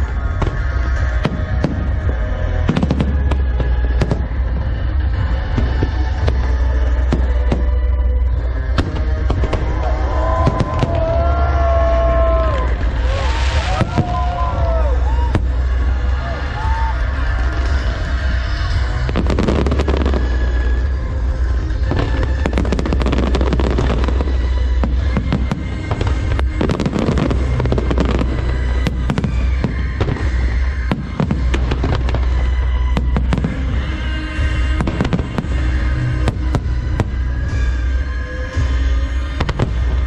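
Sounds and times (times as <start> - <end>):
fireworks bangs and crackles: 0.0 - 40.0
loud music with deep bass: 0.0 - 40.0.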